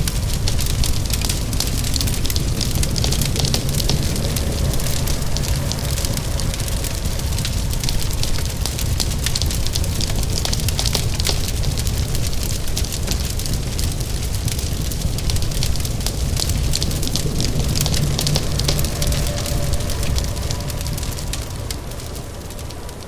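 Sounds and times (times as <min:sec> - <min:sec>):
fire crackling: 0:00.0 - 0:23.0
rain falling: 0:00.0 - 0:23.0.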